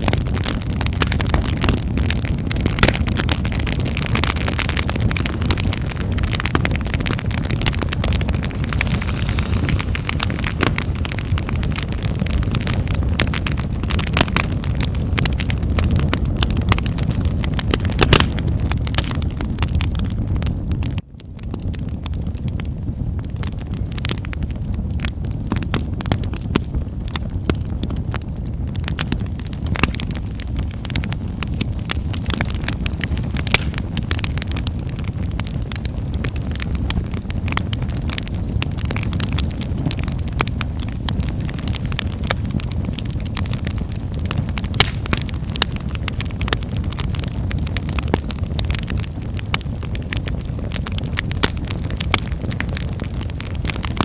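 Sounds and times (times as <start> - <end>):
fire pops and snaps: 0.0 - 54.0
low rumble of burning: 0.0 - 54.0.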